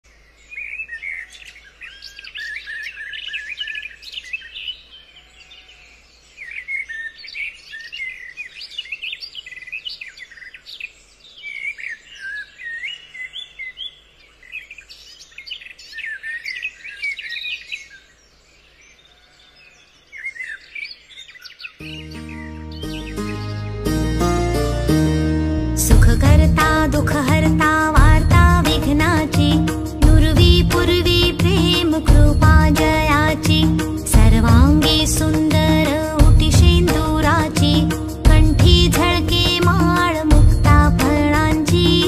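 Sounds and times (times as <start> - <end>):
birds chirping and singing: 0.1 - 24.2, 25.9 - 42.0.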